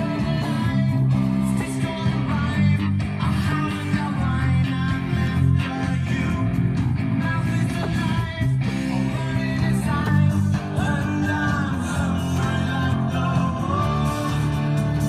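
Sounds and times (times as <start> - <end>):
rock song with guitar and vocals: 0.0 - 15.0.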